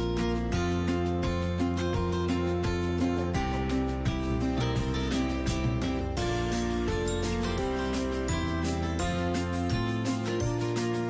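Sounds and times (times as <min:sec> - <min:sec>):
melodic background music with beat: 0:00.0 - 0:11.0.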